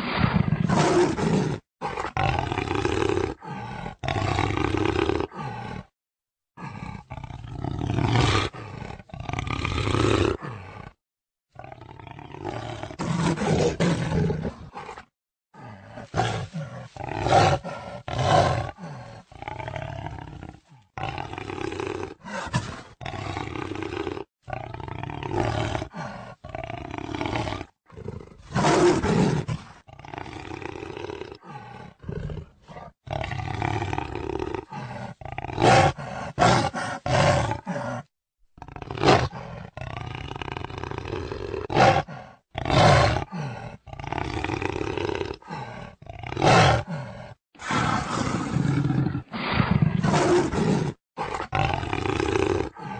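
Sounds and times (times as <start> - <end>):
jaguar roaring: 0.0 - 5.9, 6.6 - 11.0, 11.6 - 52.9.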